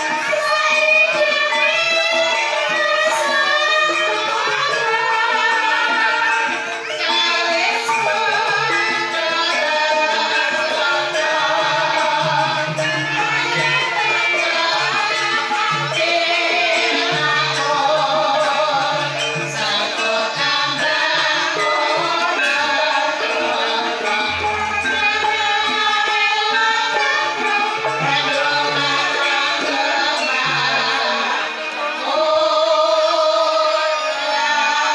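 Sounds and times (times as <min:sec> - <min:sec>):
gamelan ensemble playing: 0:00.0 - 0:34.9.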